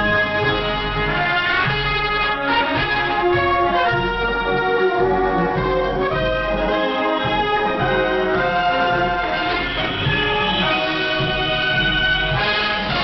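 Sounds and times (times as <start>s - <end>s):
brass and orchestral music over radio: 0.0s - 13.0s.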